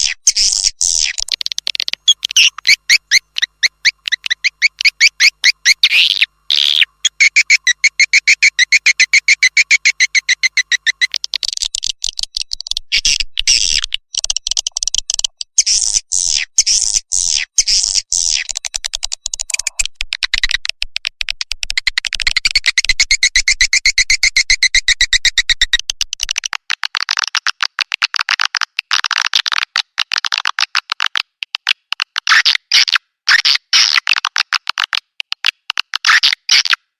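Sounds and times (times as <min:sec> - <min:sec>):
high bird chirps and clicks: 0:00.0 - 0:36.9.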